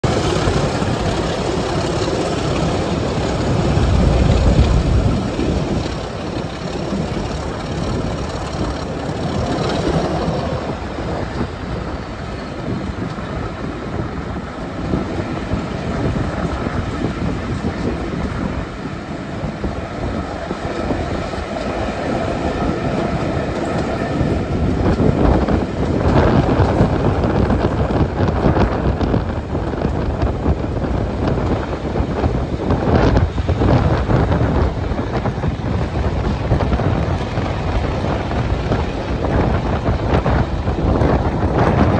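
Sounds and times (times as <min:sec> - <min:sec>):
diesel locomotive engines under power: 0:00.0 - 0:41.9
train carriage running over rails: 0:00.0 - 0:41.9.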